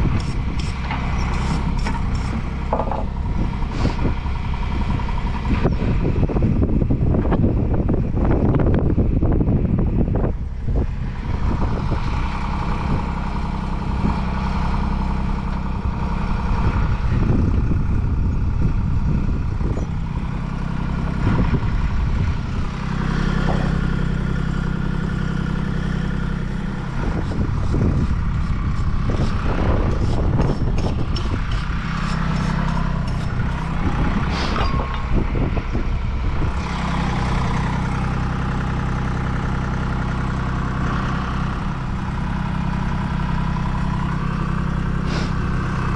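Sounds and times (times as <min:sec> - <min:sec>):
wind buffeting microphone: 0:00.0 - 0:14.4, 0:15.3 - 0:44.1
truck engine idling: 0:00.0 - 0:45.9.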